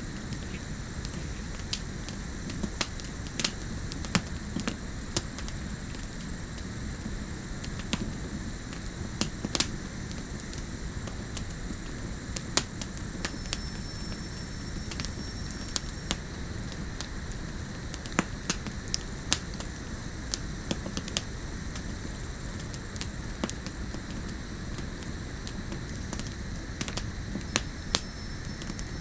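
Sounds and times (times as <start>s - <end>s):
campfire crackling and popping: 0.0s - 29.0s
steady background hiss: 0.0s - 29.0s.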